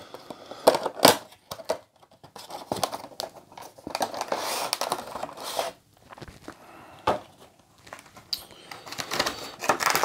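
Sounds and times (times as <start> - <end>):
plastic packaging crinkling: 1.0 - 6.6, 7.4 - 10.0.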